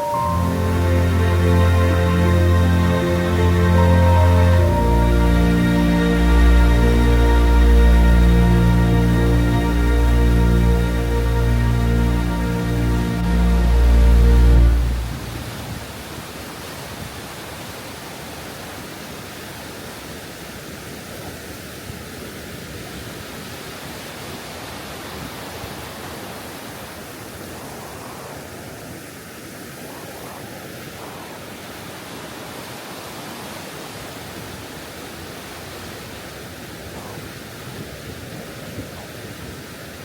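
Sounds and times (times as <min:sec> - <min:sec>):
waterfall rushing water: 0:00.0 - 0:40.0.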